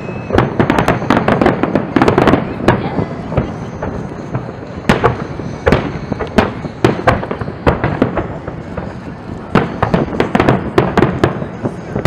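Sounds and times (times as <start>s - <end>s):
fireworks bursting with bangs: 0.0s - 12.0s
small fireworks pops: 0.0s - 12.0s.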